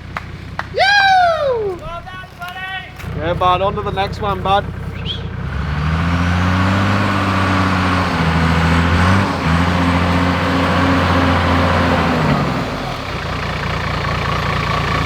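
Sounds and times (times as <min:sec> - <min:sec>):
vehicle engine driving on dirt: 0:00.0 - 0:15.0.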